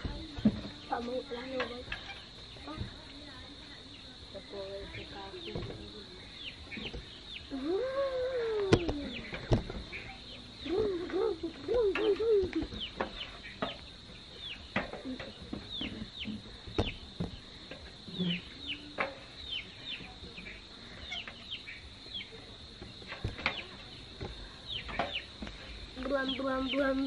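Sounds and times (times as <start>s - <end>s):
chickens clucking: 0.0s - 3.0s, 3.8s - 27.0s
high insect hum: 0.0s - 27.0s
chicks peeping: 3.8s - 27.0s.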